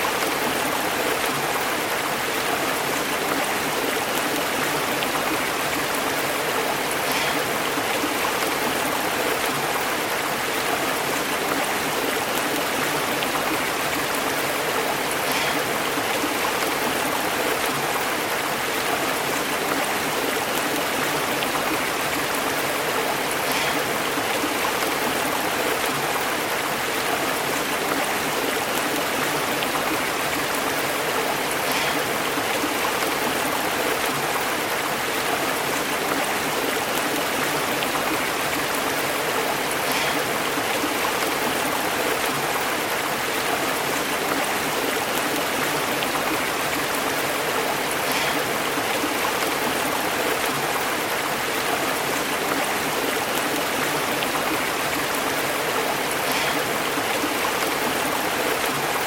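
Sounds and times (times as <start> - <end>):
stream burbling over rocks: 0.0 - 59.0.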